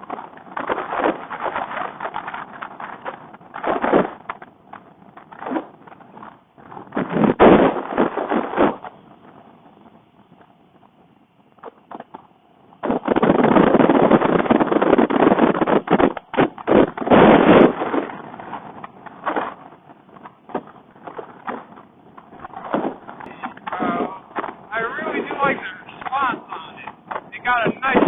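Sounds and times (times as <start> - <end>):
wind noise on microphone: 0.0 - 28.0.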